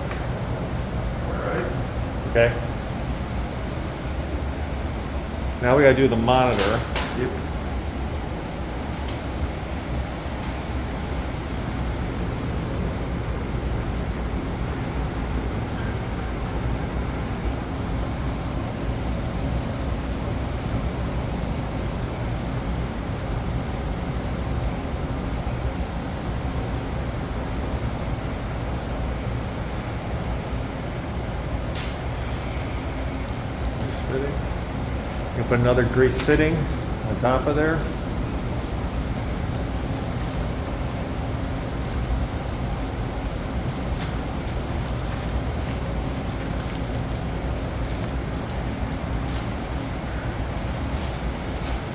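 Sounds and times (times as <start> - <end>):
ventilation fan rushing air: 0.0 - 51.9.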